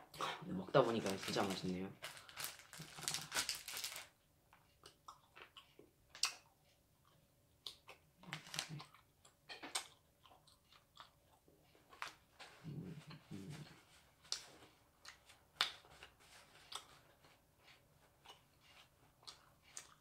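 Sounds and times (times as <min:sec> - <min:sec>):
chewing dried squid: 0:01.0 - 0:20.0.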